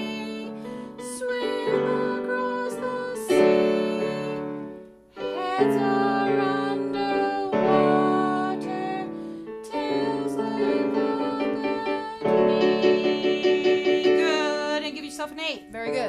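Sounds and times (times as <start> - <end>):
digital pianos playing: 0.0 - 16.0.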